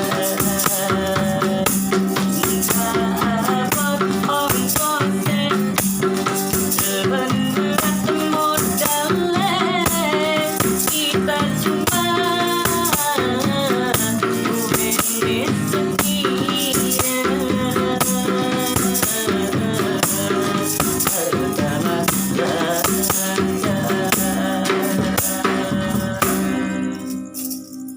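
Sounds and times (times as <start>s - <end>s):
person singing: 0.0s - 27.7s
hand rattle shaken: 0.0s - 27.9s.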